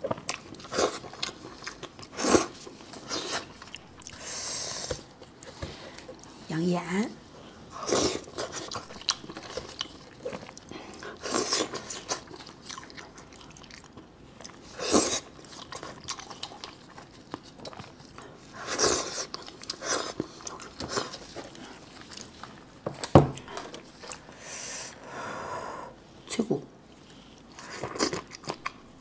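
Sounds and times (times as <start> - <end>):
crunching and chewing: 0.0 - 6.4, 7.3 - 24.4, 27.0 - 29.0.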